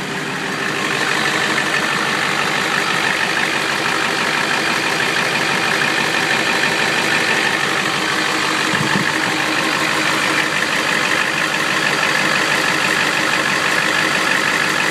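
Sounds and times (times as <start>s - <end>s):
diesel engine idling with tick: 0.0s - 14.9s.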